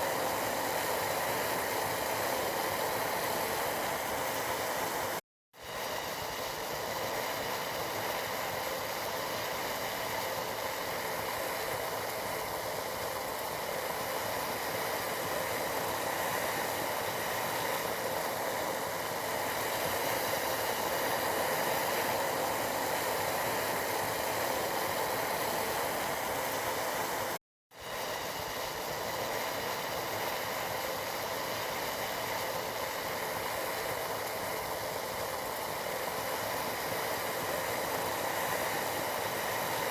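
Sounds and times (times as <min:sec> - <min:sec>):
tea boiling: 0:00.0 - 0:39.9.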